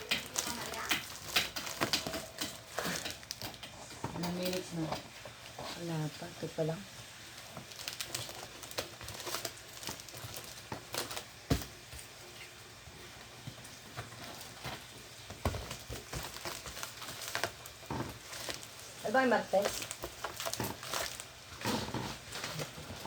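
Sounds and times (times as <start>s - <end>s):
plastic packaging crinkling: 0.0s - 6.2s, 7.2s - 12.6s, 13.6s - 23.0s.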